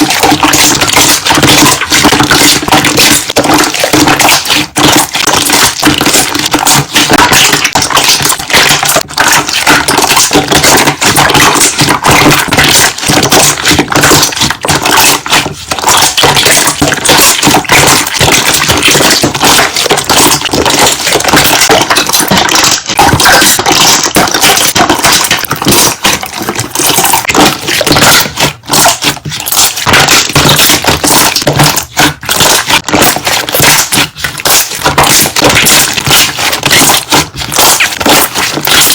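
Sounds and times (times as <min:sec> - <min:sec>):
slime air bubbles popping: 0:00.0 - 0:38.9.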